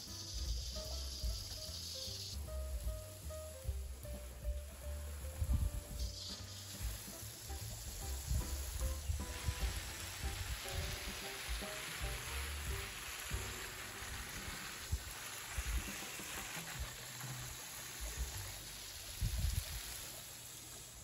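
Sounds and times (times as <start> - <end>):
hose spraying water: 0.0 - 21.0.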